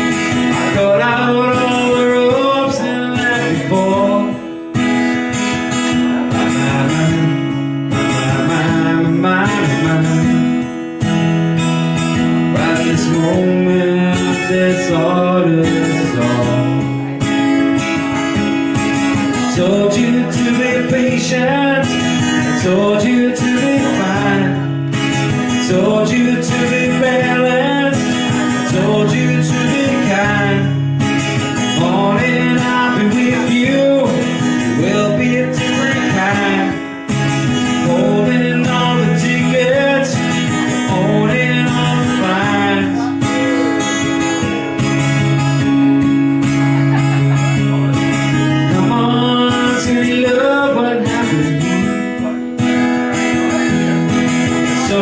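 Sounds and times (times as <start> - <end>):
person singing: 0.0 - 10.7, 12.2 - 55.0
strummed acoustic guitar: 0.0 - 55.0.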